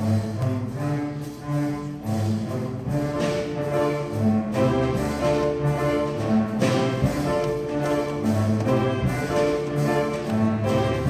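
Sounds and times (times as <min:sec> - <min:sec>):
string orchestra playing: 0:00.0 - 0:11.0.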